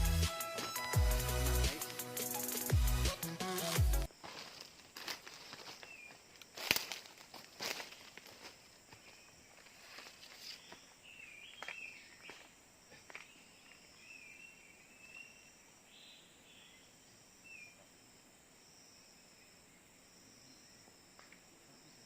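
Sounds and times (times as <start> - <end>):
insect buzz: 0.0 - 22.0.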